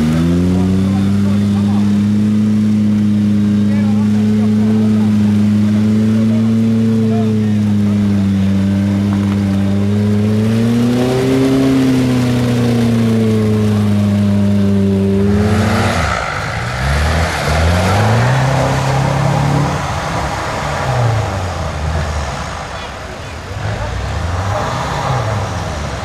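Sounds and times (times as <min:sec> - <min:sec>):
off-road engine running hard: 0:00.0 - 0:26.0
rushing noise: 0:00.0 - 0:26.0.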